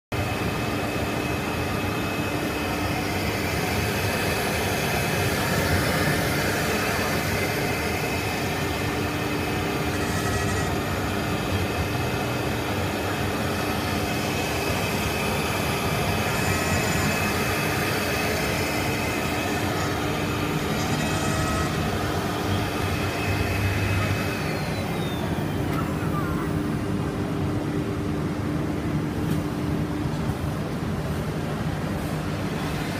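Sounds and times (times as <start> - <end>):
cnc router milling whine: 0.2 - 32.9.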